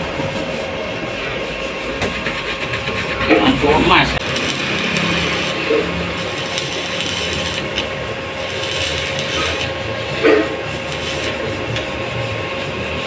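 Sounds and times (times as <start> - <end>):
welding arc crackling and sizzling: 0.0 - 13.0.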